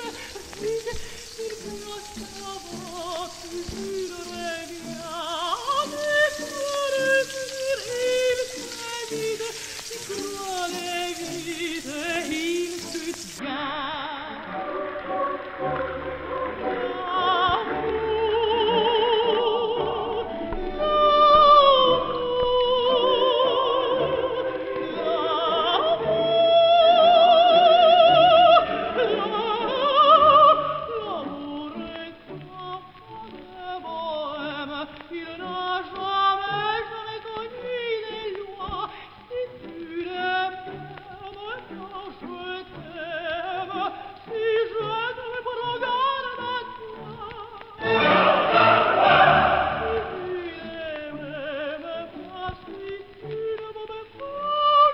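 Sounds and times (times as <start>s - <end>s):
operatic singing: 0.0s - 54.9s.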